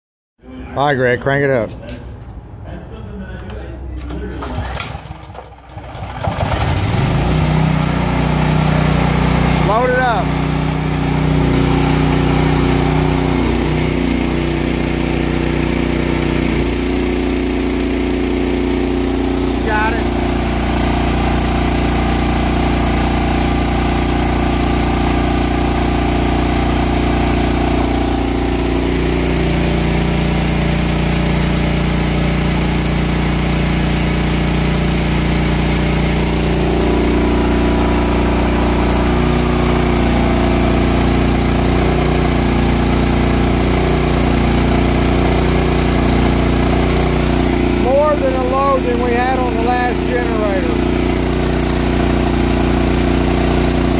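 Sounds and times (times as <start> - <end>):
generator engine running: 0.6 - 53.9.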